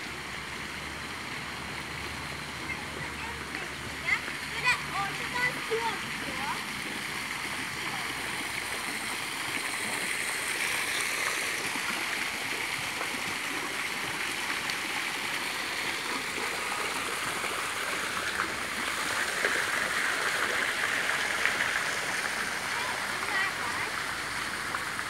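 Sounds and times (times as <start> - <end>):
fountain jet splashing: 0.0 - 25.0.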